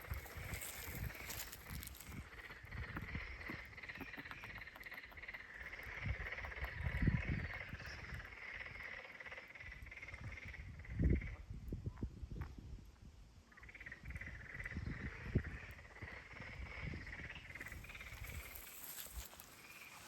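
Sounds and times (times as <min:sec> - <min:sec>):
frogs trilling chorus: 0:00.0 - 0:11.5, 0:13.5 - 0:20.0.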